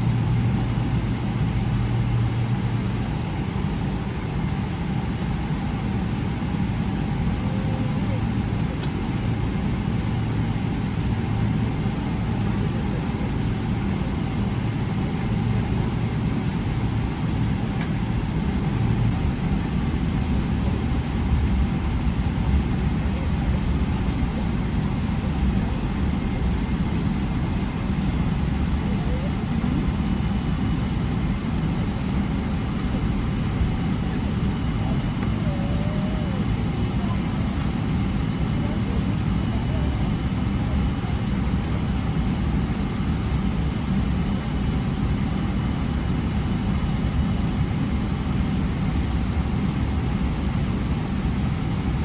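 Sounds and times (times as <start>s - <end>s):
aircraft cabin rumble: 0.0s - 52.0s.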